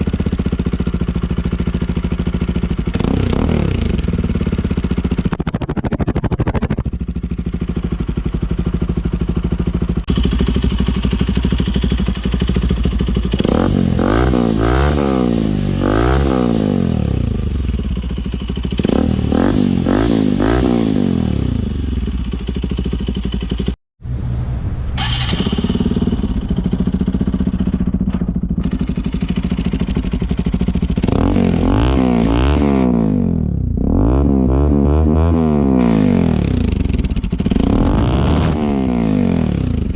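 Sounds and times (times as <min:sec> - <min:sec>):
motorcycle engine idling and revving: 0:00.0 - 0:23.8, 0:25.0 - 0:39.9.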